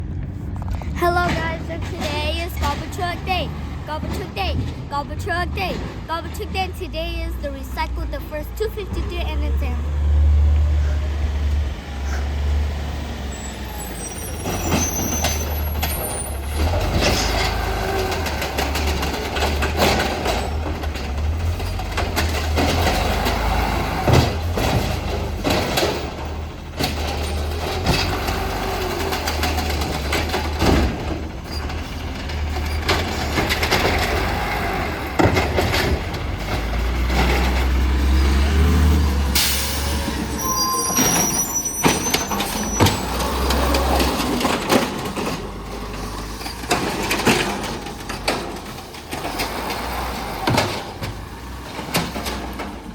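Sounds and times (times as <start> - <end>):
diesel engine running: 0.0 - 52.9
clanks and bangs from pickup: 0.6 - 6.8, 14.1 - 40.3, 41.8 - 52.9.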